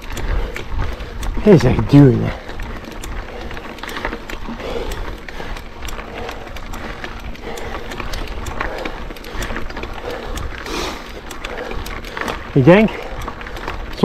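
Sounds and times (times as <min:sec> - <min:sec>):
rider breathing hard: 0:00.0 - 0:14.0
small clicks and knocks: 0:00.0 - 0:14.0
tyres crunching on stony trail: 0:00.0 - 0:14.0.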